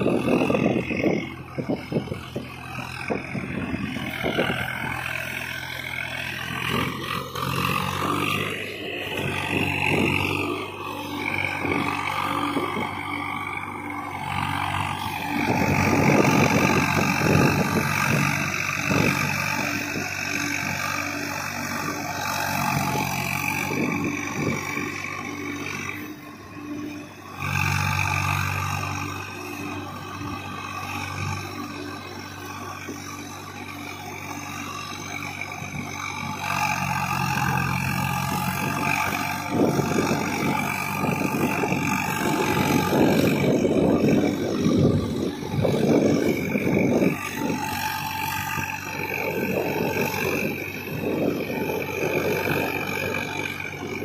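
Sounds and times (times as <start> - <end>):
rough rumbling noise: 0.0 - 54.0
tractor diesel engine running: 0.0 - 54.0.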